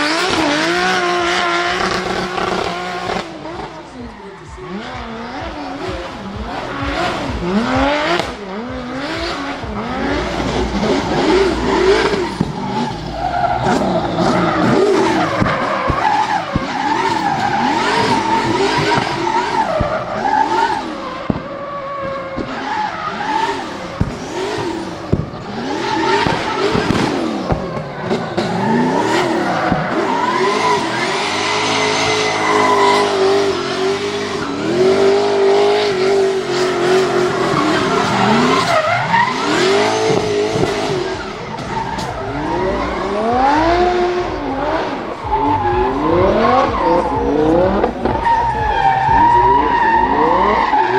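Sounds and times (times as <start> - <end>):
car engine revving: 0.0 - 50.9
tyres squealing: 0.0 - 50.9.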